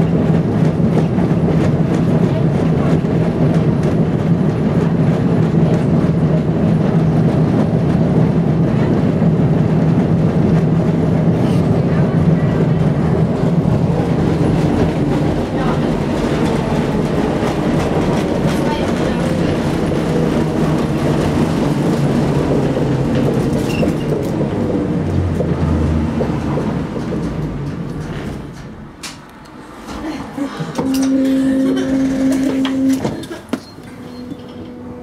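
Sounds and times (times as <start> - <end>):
clickety-clack of wheels: 0.0 - 11.9, 14.4 - 34.8
tram wheels rumbling on rails: 0.0 - 35.0.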